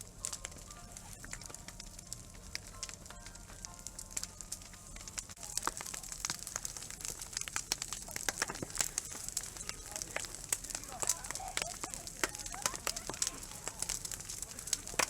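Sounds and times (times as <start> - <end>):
fire hissing: 0.0 - 15.0
wood fire crackling and popping: 0.0 - 15.0.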